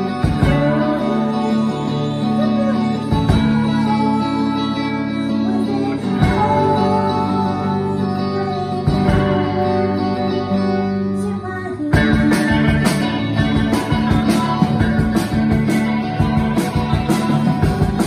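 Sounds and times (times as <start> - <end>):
drums with steady beat: 0.0 - 7.9, 8.7 - 10.3, 11.9 - 18.0
ringing guitar notes: 0.0 - 18.0
rock band playing: 0.0 - 18.0.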